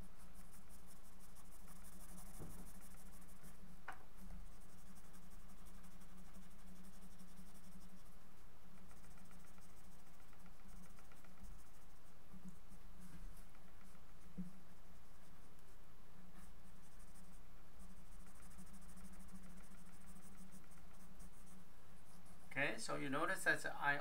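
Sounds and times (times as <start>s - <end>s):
pencil scratching on paper: 0.0s - 22.5s
steady low hum: 0.0s - 24.0s.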